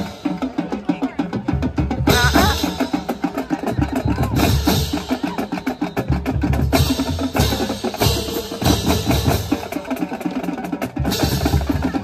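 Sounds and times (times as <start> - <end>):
bass drum beats: 0.0 - 9.6
rapid snare drum strokes: 0.0 - 12.0.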